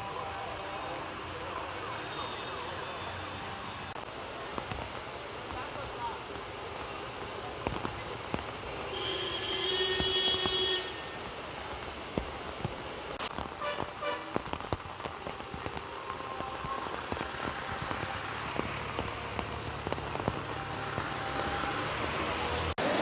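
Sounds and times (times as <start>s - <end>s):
heavy rain on a street: 0.0s - 23.0s.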